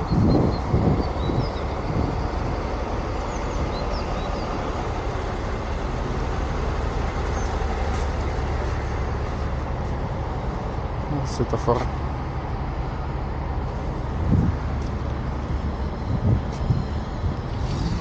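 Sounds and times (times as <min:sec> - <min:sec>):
passing traffic rumble: 0:00.0 - 0:18.0.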